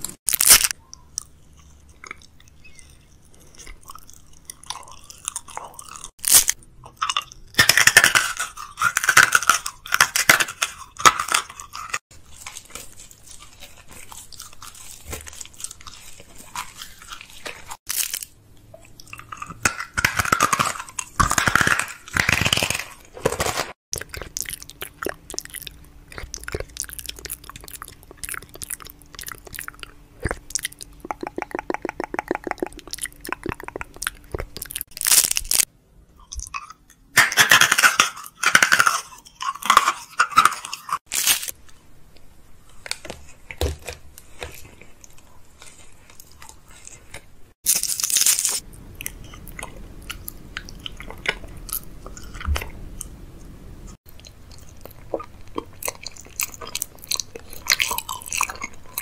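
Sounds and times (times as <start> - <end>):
wet chewing and smacking: 0.0 - 37.0, 42.8 - 59.0
crunchy bites: 0.1 - 18.4, 19.0 - 35.7, 36.3 - 41.6, 42.9 - 53.1, 54.1 - 59.0.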